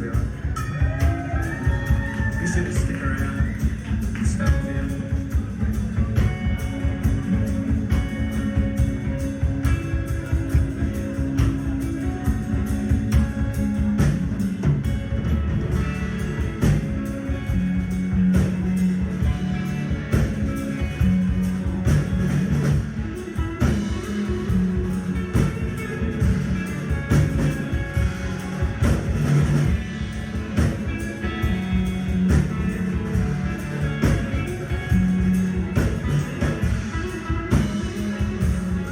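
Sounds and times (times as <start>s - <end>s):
drum kit pounding: 0.0s - 38.9s
heavy guitar riffs: 0.0s - 38.9s.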